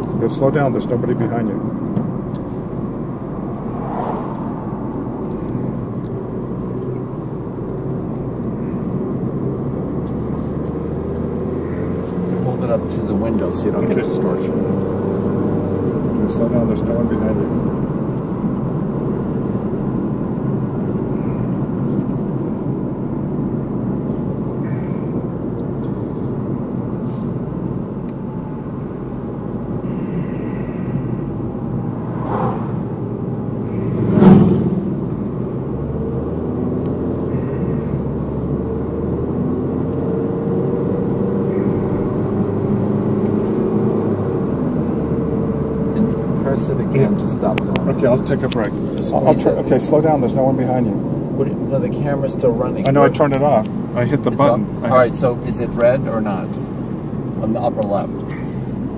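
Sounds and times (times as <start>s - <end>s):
car tyre and engine rumble: 0.0s - 58.9s
oncoming vehicle passing: 0.8s - 22.0s, 29.8s - 58.9s.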